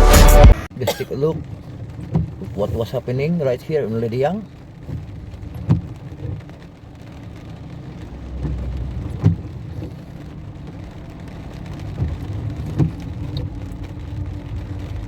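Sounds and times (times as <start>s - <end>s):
heavy rain on car: 0.0s - 15.0s
low engine rumble: 0.0s - 15.0s.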